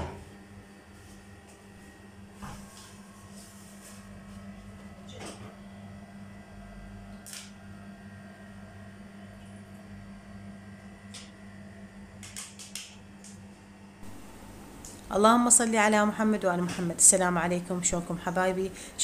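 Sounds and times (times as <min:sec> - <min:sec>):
room tone hum: 0:00.0 - 0:19.0.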